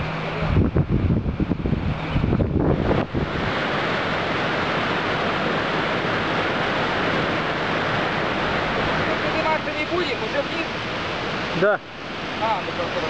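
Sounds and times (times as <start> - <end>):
mountain stream rushing: 0.0 - 0.7, 1.4 - 13.0.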